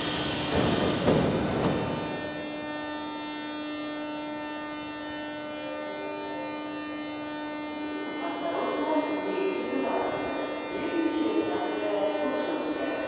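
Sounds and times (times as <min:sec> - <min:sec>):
train electrical hum and whine: 0:00.0 - 0:13.0.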